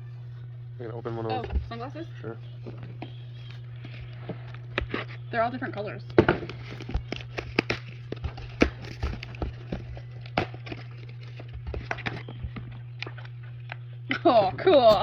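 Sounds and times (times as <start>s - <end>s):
steady low hum: 0.0s - 15.0s
plastic and cardboard packaging crinkling: 0.9s - 15.0s.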